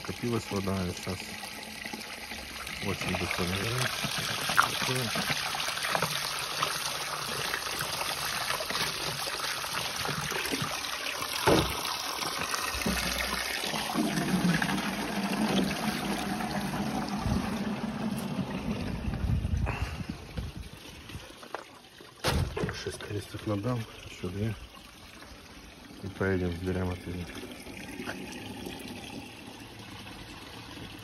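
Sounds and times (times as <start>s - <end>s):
water pouring into plastic can: 0.0s - 31.0s.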